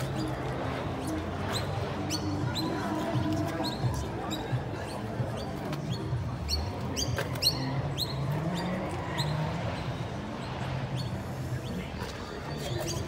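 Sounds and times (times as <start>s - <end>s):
background murmur: 0.0s - 13.0s.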